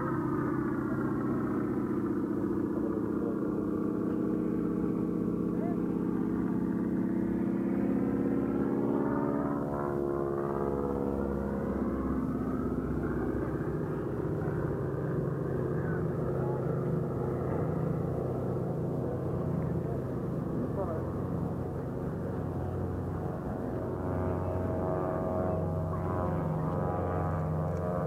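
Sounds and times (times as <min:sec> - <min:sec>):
propeller plane engine droning: 0:00.0 - 0:28.0.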